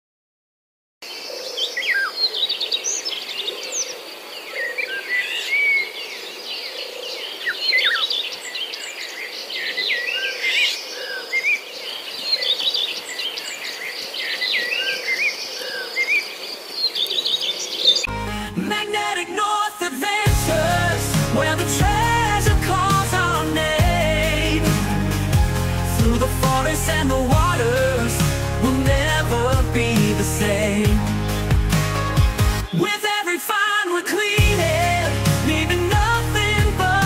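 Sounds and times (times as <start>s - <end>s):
birds chirping and calling: 1.0s - 18.1s, 20.4s - 33.0s.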